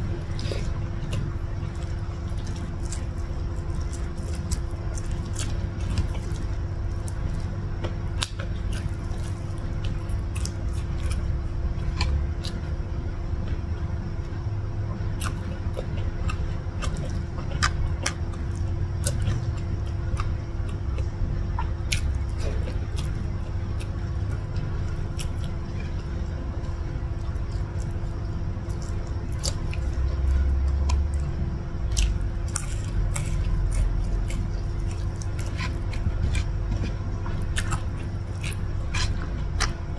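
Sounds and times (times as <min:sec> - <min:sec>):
person chewing food: 0:00.0 - 0:13.0, 0:14.3 - 0:39.9.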